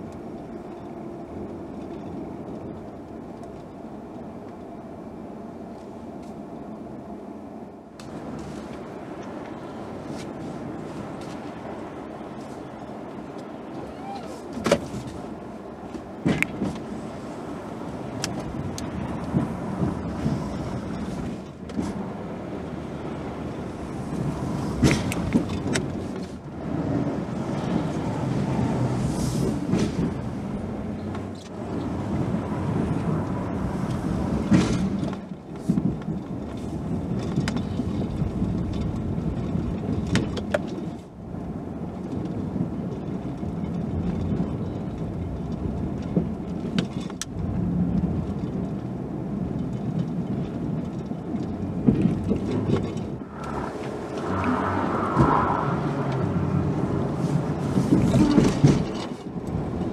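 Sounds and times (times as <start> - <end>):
engine rumble inside cab: 0.0 - 59.9.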